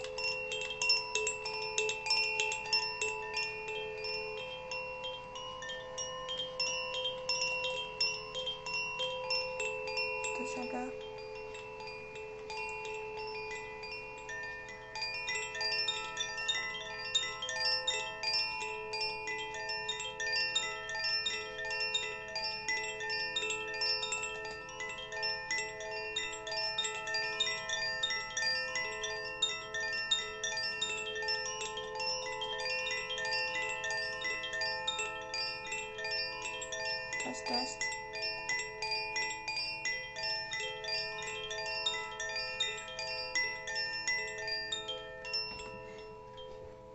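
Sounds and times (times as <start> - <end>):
bamboo chime ringing: 0.0 - 46.9.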